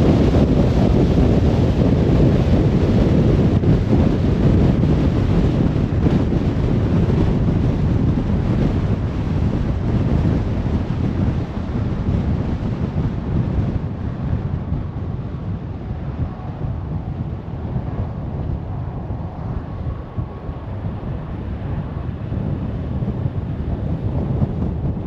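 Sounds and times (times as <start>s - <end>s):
tyre and wind noise: 0.0s - 25.0s.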